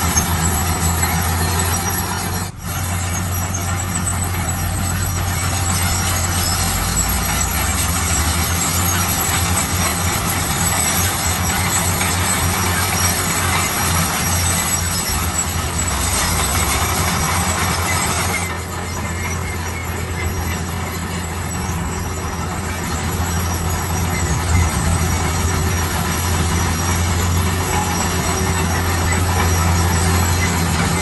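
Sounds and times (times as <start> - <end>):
diesel engine drone: 0.0 - 31.0
loud grinding and rattling: 0.0 - 31.0.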